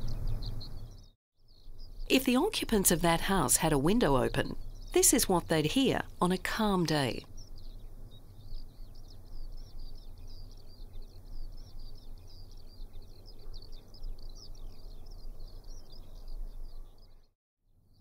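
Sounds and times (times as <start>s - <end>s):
birds chirping: 0.0s - 17.3s.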